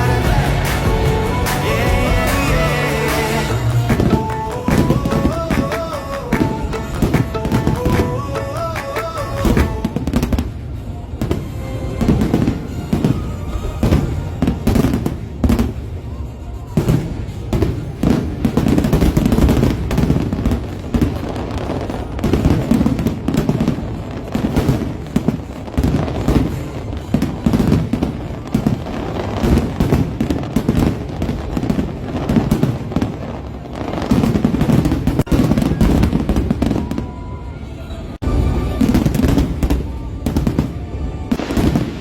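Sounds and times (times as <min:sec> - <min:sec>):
fireworks bangs and crackles: 0:00.0 - 0:37.5, 0:38.2 - 0:42.0.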